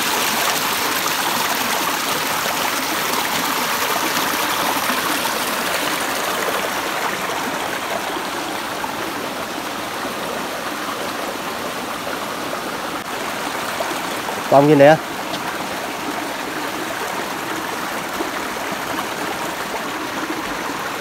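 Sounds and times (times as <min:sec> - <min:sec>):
stream babbling over stones: 0:00.0 - 0:21.0.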